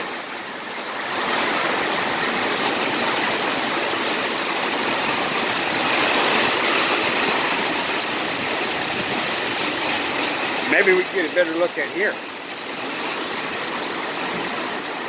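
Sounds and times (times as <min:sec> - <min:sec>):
heavy rain pouring: 0:00.0 - 0:15.0
water running off building: 0:00.0 - 0:15.0.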